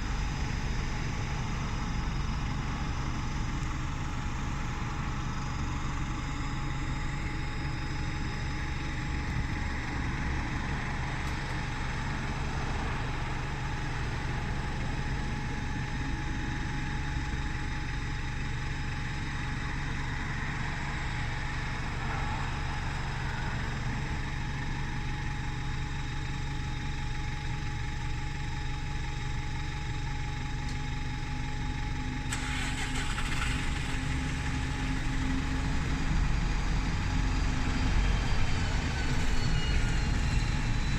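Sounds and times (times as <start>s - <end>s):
bus engine idling: 0.0s - 40.9s.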